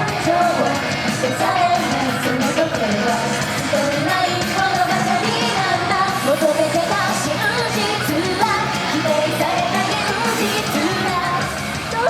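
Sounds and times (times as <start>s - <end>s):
group singing pop song live: 0.0s - 12.0s
loud backing music: 0.0s - 12.0s.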